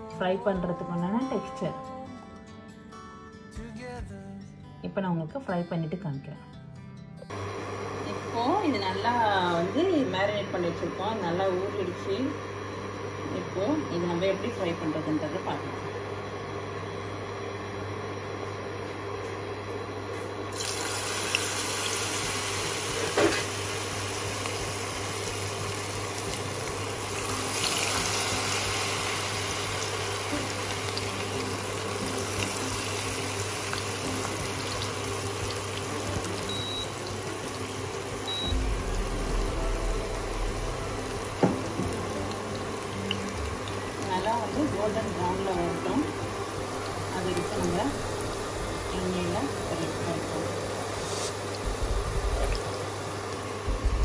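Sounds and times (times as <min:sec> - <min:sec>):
food sizzling in hot oil: 0:07.3 - 0:54.0.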